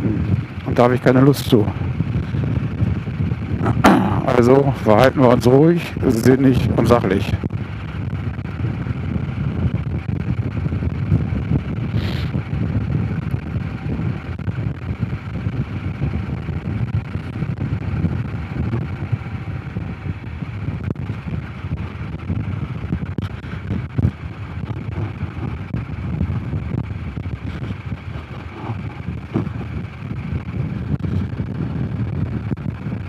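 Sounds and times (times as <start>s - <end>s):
motorcycle engine running: 0.0s - 33.0s
wind noise on microphone: 0.0s - 33.0s.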